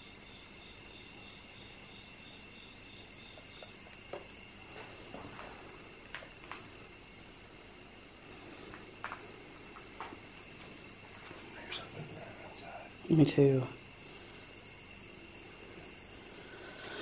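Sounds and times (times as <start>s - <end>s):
crickets trilling: 0.0s - 17.0s
pulsing insect chirp: 0.0s - 17.0s.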